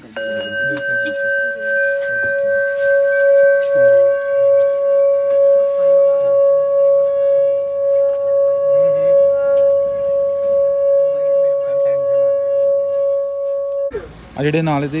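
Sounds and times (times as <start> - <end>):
singing bowl ringing: 0.0 - 14.2.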